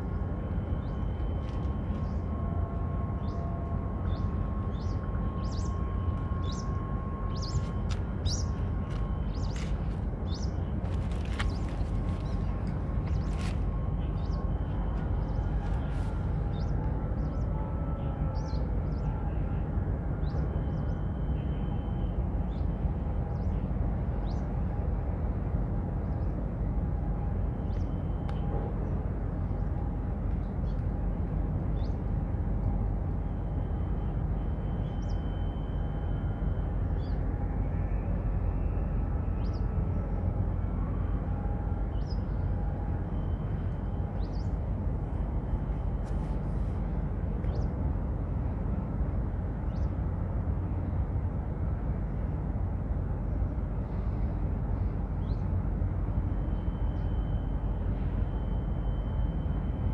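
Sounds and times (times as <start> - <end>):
faint steady whine: 0.0 - 59.9
steady low rumble: 0.0 - 59.9.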